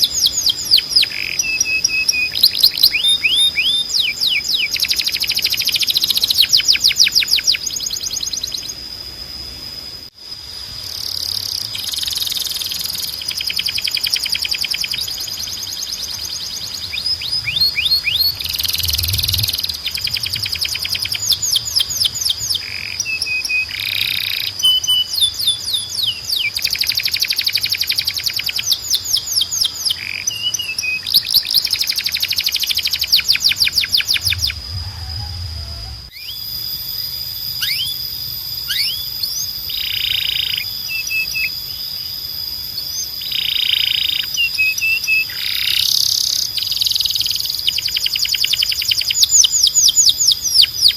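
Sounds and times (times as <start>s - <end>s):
canary singing trills: 0.0s - 8.9s, 10.9s - 50.9s
steady high whistle-like tone: 0.0s - 50.9s.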